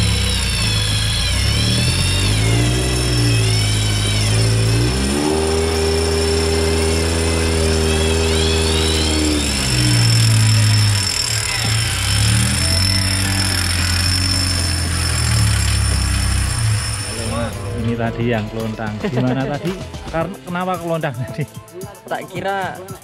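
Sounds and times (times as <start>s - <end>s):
off-road vehicle engine revving: 0.0s - 20.7s.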